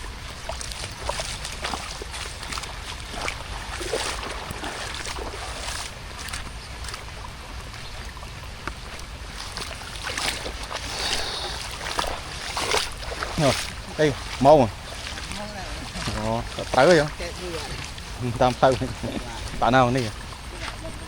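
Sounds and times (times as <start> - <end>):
steady rain: 0.0 - 21.0
water splashing and sloshing: 0.0 - 21.0.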